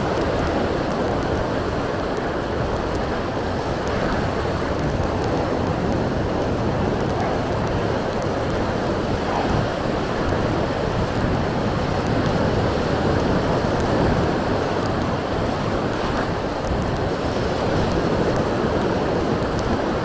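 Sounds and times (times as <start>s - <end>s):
sea surf: 0.0s - 20.0s
wind buffeting microphone: 0.0s - 20.0s.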